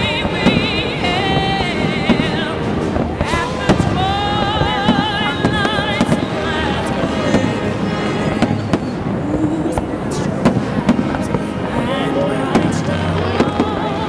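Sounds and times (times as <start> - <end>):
fireworks bangs and crackles: 0.0 - 14.0
music with long held notes: 0.0 - 14.0.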